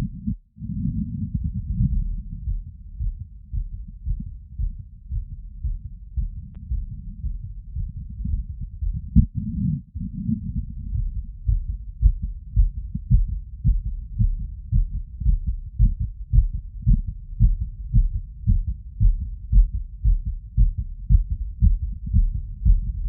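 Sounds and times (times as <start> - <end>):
heartbeat thuds through stethoscope: 0.0 - 23.0.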